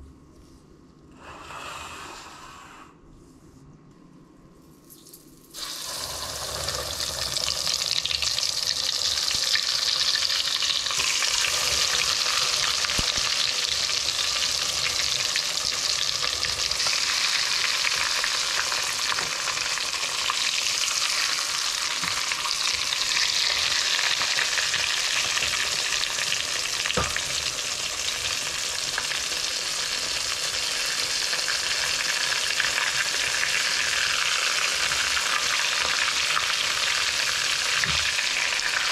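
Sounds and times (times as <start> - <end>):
oil sizzling: 5.0 - 38.9.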